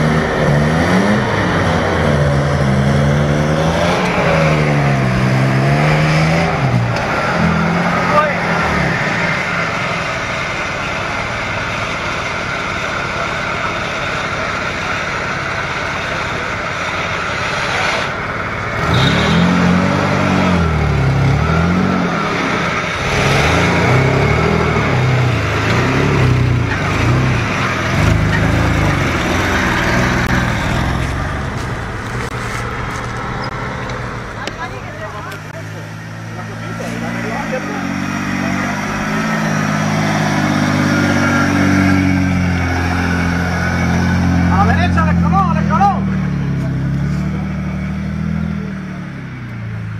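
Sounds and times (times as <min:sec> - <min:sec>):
engine revving up and down: 0:00.0 - 0:49.9.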